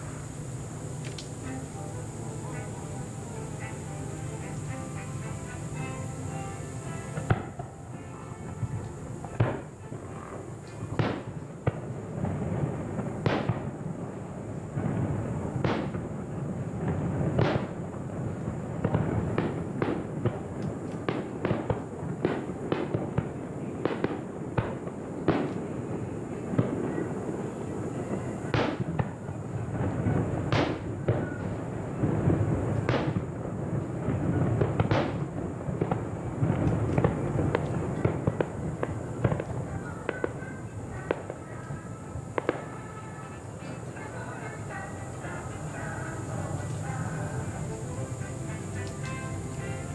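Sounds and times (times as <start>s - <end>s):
fireworks bangs and booms: 0.0s - 49.9s
fireworks crackle: 0.0s - 49.9s.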